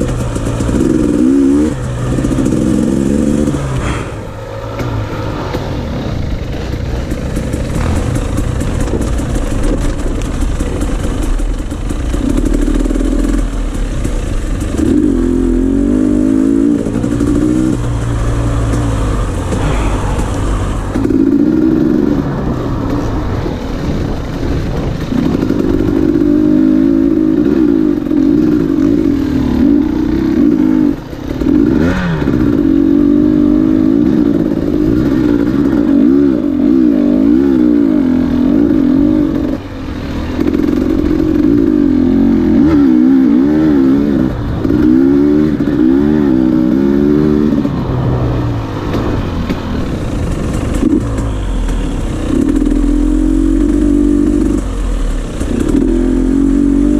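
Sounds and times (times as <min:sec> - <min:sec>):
dirt bike engines revving: 0:00.0 - 0:56.9.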